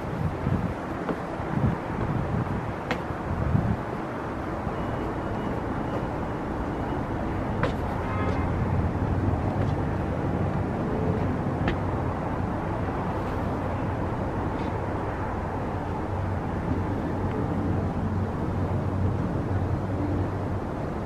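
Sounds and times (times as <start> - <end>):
distant traffic: 0.0 - 21.0
wind: 0.0 - 21.0.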